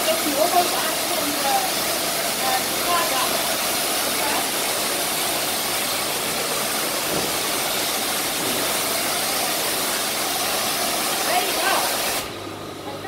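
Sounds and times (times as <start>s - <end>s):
high-pressure washer spraying: 0.0s - 12.4s.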